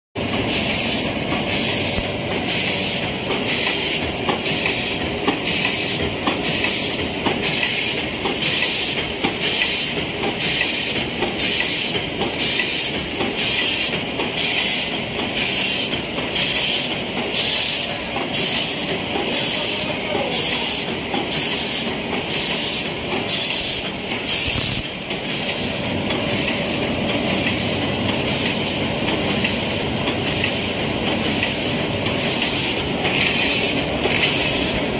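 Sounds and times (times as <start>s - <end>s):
machinery clattering: 0.2s - 34.9s.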